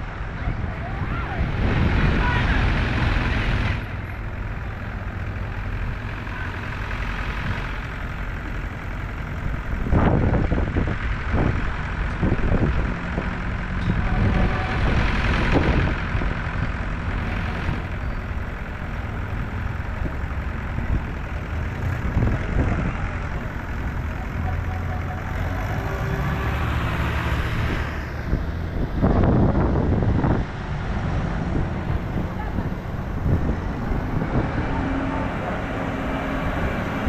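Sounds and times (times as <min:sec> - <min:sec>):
tractor engines running: 0:00.0 - 0:37.0.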